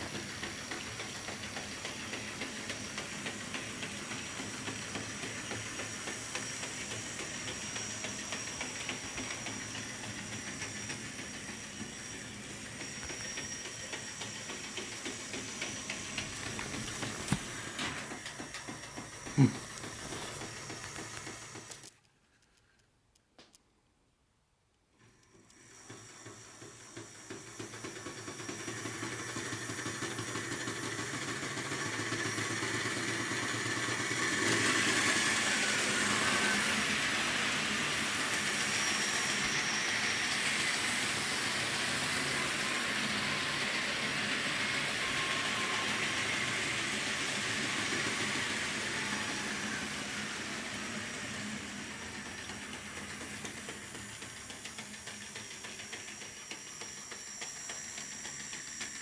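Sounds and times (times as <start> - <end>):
model train whirring: 0.0 - 22.0, 25.0 - 59.0.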